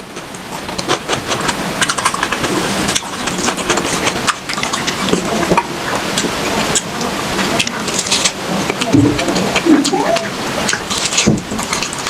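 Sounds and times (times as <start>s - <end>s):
crunching and chewing: 0.0s - 12.0s.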